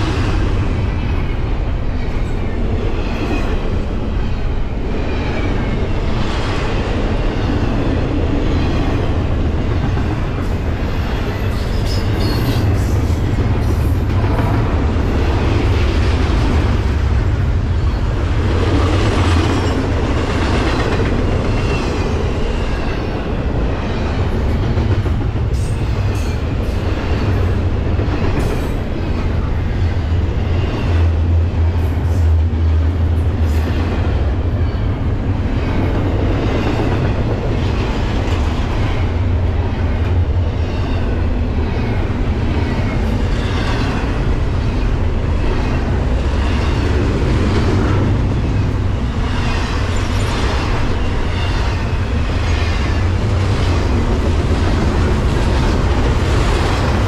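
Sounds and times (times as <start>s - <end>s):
freight train rumble: 0.0s - 57.0s.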